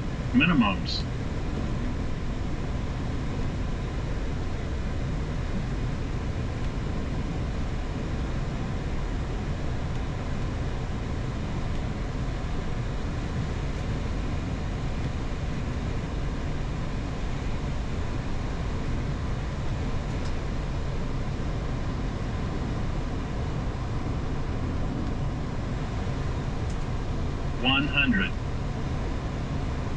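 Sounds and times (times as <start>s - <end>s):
cockpit airflow and engine rush: 0.0s - 29.9s.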